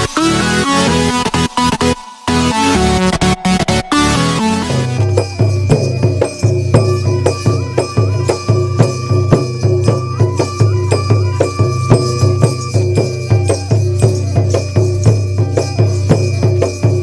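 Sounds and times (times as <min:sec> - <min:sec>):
folk music with percussive beat: 0:00.0 - 0:17.0.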